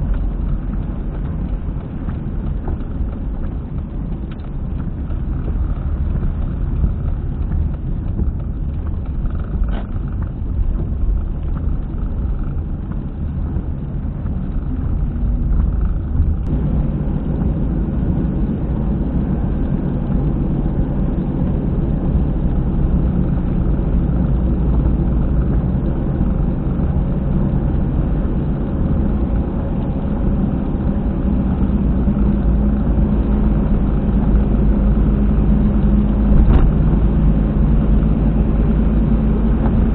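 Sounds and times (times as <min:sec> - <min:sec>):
car cabin road noise: 0:00.0 - 0:39.9
rear wheel rumbling: 0:00.0 - 0:39.9.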